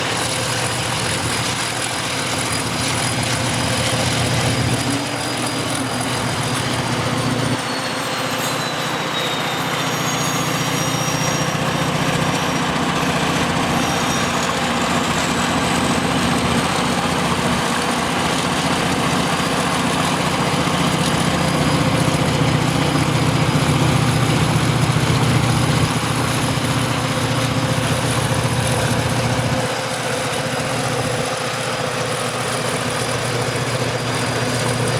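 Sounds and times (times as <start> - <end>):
high-pitched sliding whines: 0.0 - 31.4
locomotive engine hum: 0.0 - 34.9.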